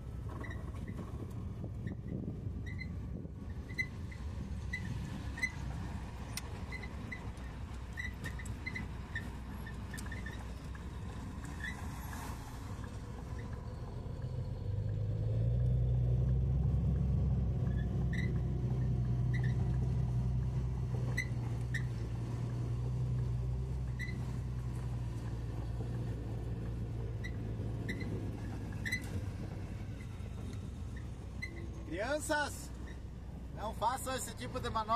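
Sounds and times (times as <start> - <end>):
truck diesel engine drone: 2.7 - 34.9.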